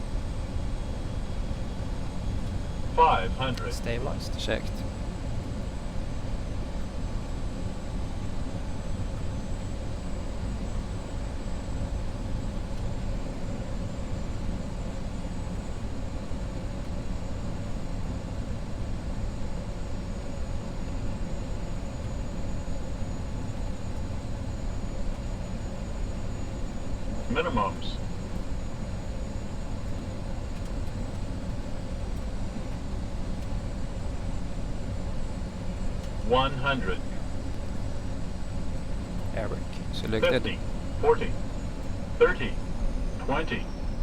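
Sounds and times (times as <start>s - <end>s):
jet engines humming: 0.1s - 44.0s
faint steady tones: 2.8s - 6.5s, 9.3s - 44.0s.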